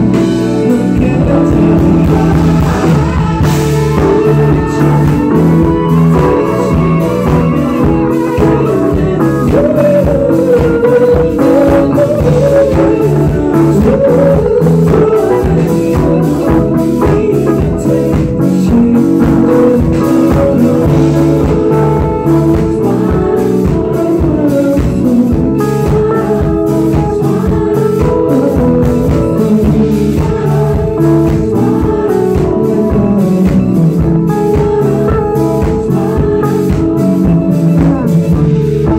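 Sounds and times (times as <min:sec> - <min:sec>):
guitar: 0:00.0 - 0:38.9
live band playing: 0:00.0 - 0:38.9
person singing: 0:00.0 - 0:38.9
steady drum beat: 0:00.0 - 0:38.9.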